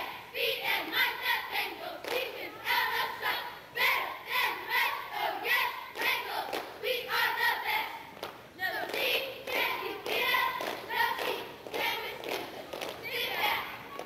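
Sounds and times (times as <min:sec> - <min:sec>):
cheerleaders chanting in unison: 0:00.0 - 0:14.0.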